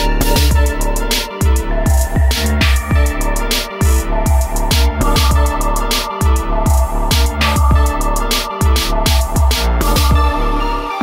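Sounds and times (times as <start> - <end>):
rap instrumental beat: 0.0 - 11.0.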